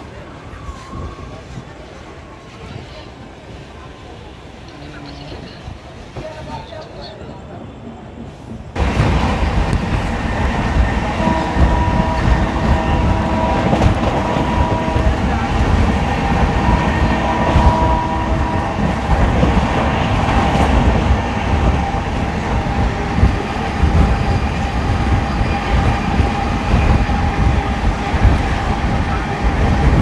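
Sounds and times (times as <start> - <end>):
train wheels rumbling: 0.0 - 30.0.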